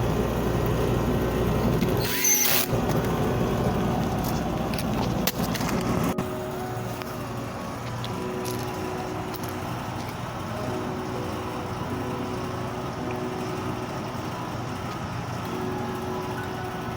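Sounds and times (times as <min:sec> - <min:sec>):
air conditioner fan humming: 0:00.0 - 0:16.9.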